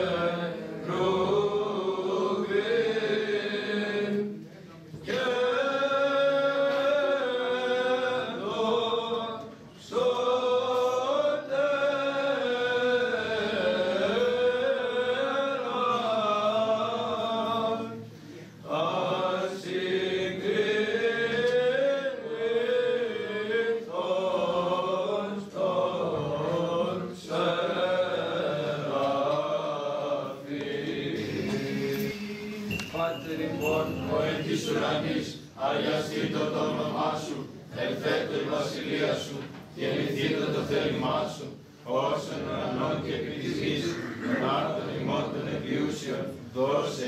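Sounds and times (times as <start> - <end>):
male choir chanting: 0.0 - 4.4, 5.0 - 47.0.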